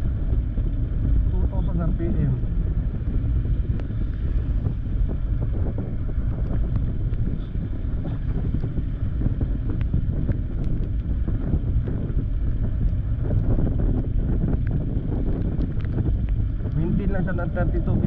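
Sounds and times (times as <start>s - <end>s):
motorcycle engine rumbling: 0.0s - 18.0s
wind buffeting microphone: 0.0s - 18.0s.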